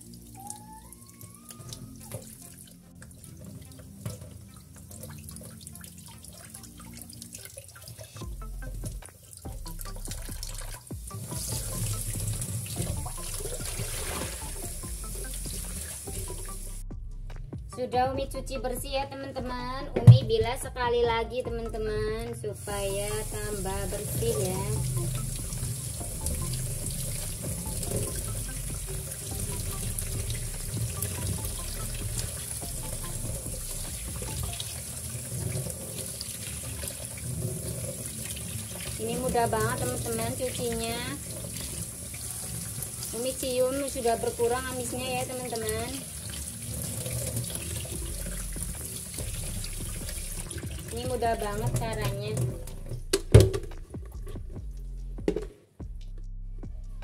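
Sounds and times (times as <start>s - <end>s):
tap water running into sink: 0.0s - 16.8s, 22.6s - 54.3s
water splashes and drips: 0.0s - 17.5s, 22.6s - 55.5s.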